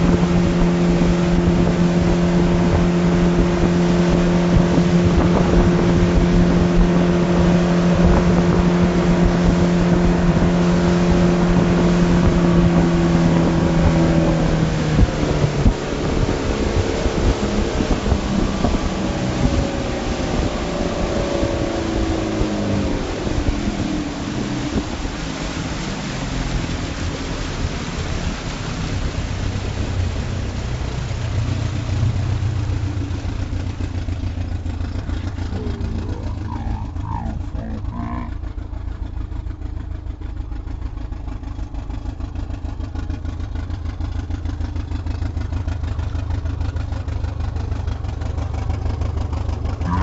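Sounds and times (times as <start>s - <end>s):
outboard engine running: 0.0s - 50.0s
water and wind rushing: 0.0s - 50.0s.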